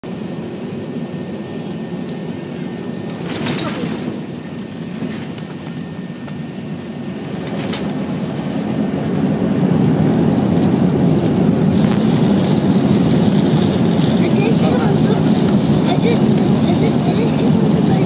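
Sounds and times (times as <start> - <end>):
airliner rolling deep rumble: 0.0 - 18.0.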